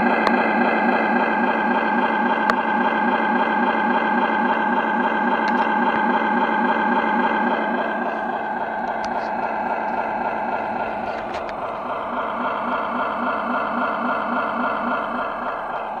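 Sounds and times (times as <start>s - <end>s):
simulated diesel engine idling: 0.0s - 16.0s.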